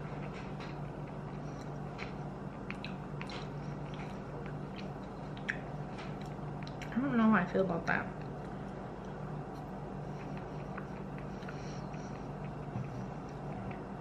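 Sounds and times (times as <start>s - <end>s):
person chewing: 0.0s - 6.9s, 8.2s - 14.0s
steady low hum: 0.0s - 14.0s.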